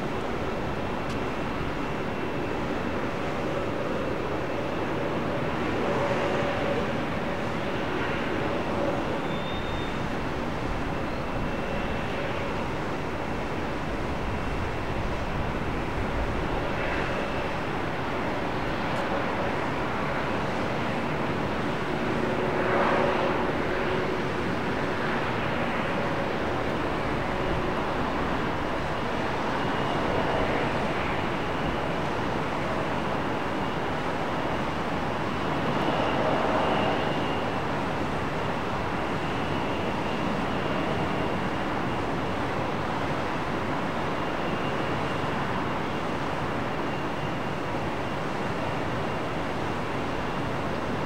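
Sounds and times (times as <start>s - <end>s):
faint high whine: 0.0s - 51.0s
jet engines running: 0.0s - 51.0s.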